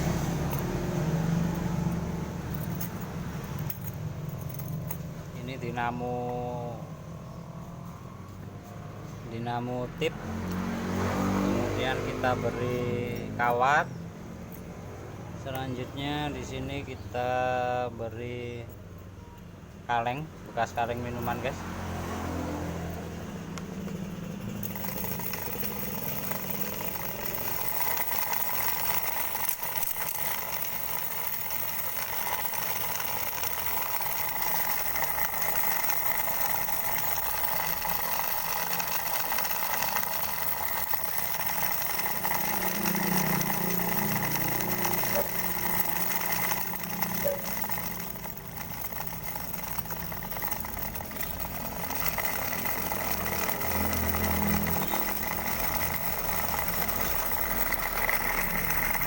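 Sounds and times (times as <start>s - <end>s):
small motor spinning: 0.0s - 8.9s, 9.5s - 14.8s, 20.0s - 59.0s.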